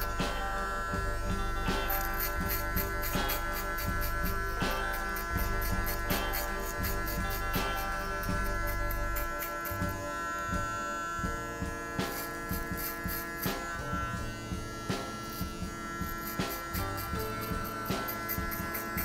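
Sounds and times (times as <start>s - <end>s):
deeper drone: 0.0s - 18.1s
background music with regular beat: 0.0s - 19.0s
hair clipper buzzing: 0.0s - 19.0s.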